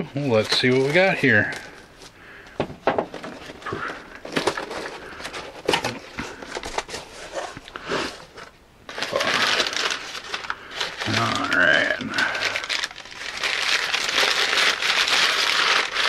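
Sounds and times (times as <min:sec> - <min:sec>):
packing paper crinkling: 0:00.1 - 0:16.0.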